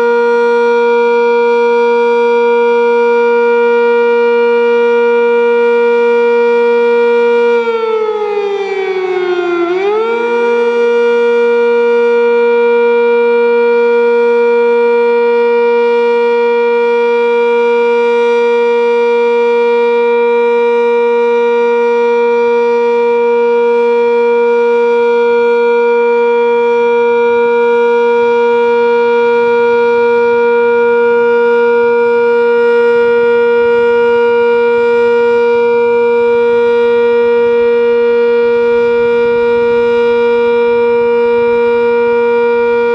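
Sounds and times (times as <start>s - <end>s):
warning siren: 0.0s - 42.9s.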